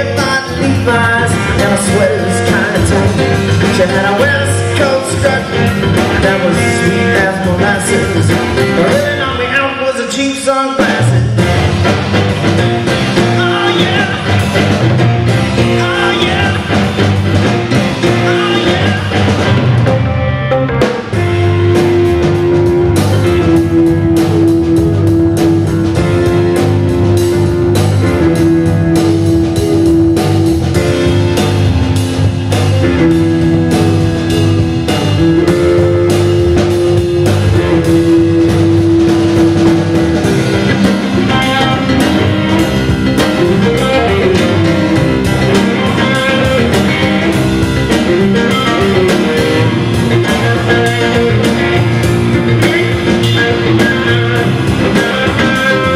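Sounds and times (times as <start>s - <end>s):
electric guitar lead: 0.0s - 55.9s
live blues-rock band: 0.0s - 55.9s.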